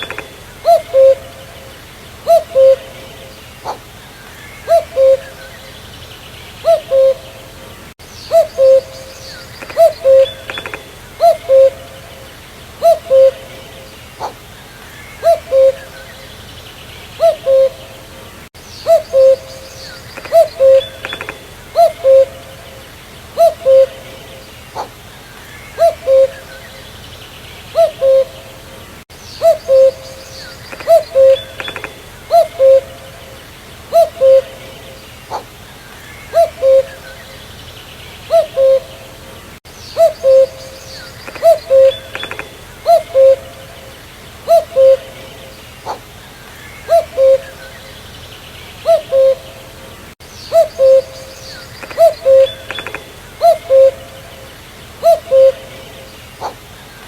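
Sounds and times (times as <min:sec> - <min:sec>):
cuckoo calling: 0:00.0 - 0:05.9, 0:06.6 - 0:16.4, 0:17.1 - 0:27.0, 0:27.7 - 0:37.6, 0:38.2 - 0:48.1, 0:48.8 - 0:56.7.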